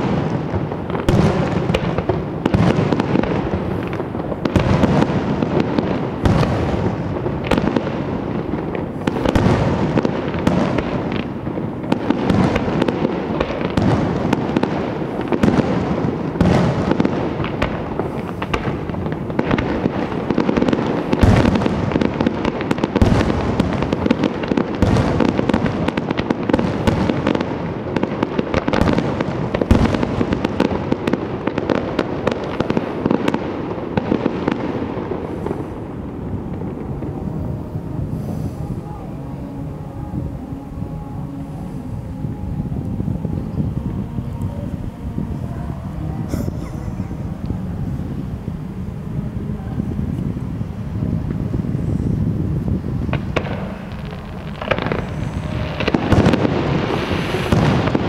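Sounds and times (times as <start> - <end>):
fireworks bursts and bangs: 0.0 - 58.0.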